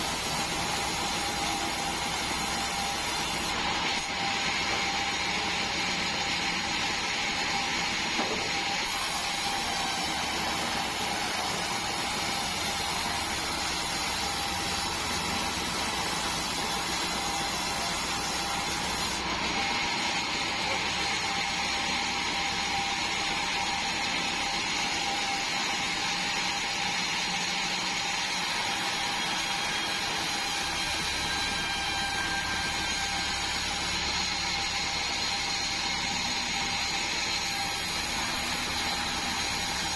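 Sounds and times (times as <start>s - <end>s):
band sawmill whining: 0.0s - 39.9s.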